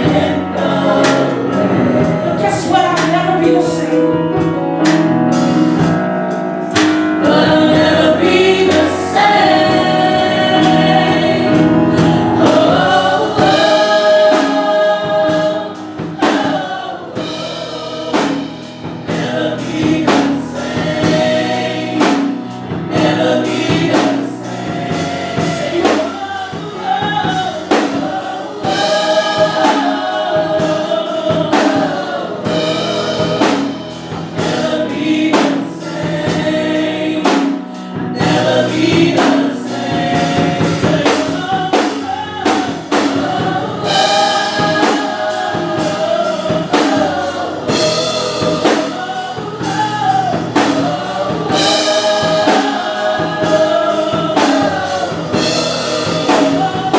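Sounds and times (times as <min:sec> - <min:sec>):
drum kit beat: 0:00.0 - 0:56.9
gospel choir singing: 0:00.0 - 0:56.9.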